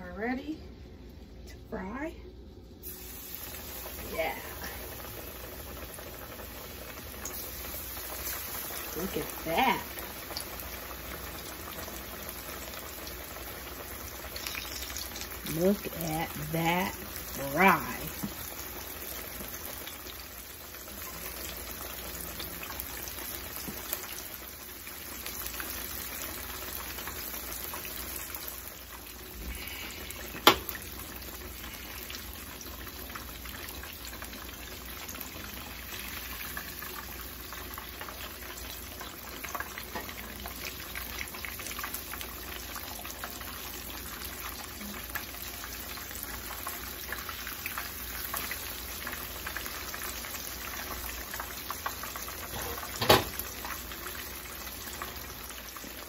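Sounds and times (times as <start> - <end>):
fish deep-frying in oil: 2.8 - 56.0.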